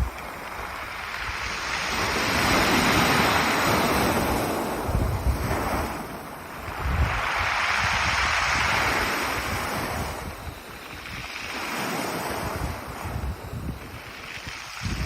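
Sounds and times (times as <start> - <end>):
surf washing over pebbles: 0.0 - 15.0.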